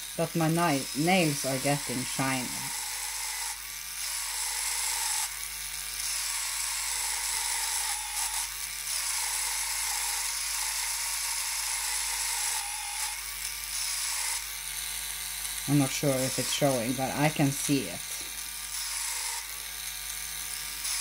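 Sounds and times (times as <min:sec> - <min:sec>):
electric nail file whirring: 0:00.0 - 0:21.0.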